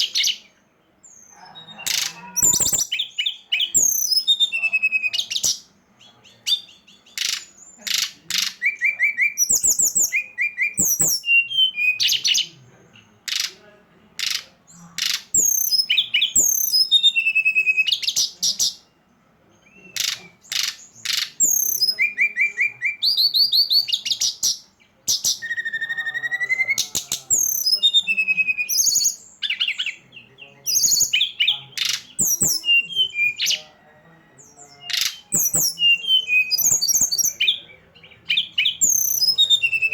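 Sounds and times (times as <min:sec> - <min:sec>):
bird song recording: 0:00.0 - 0:39.9.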